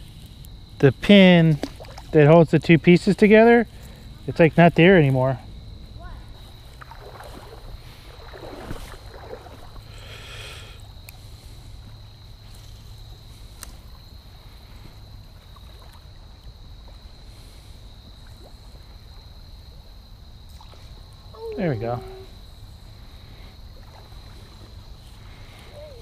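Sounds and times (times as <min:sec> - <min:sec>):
low rumble of water and wind: 0:00.0 - 0:26.0.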